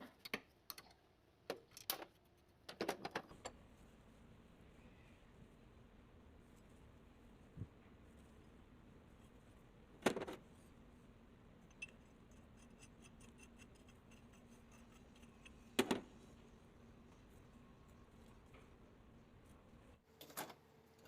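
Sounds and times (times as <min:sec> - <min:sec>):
faint steady hum: 0:03.2 - 0:21.0.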